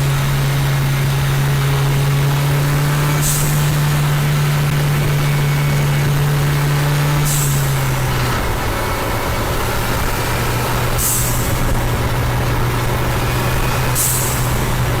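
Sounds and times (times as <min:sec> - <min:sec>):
car engine running with low hum: 0:00.0 - 0:15.0.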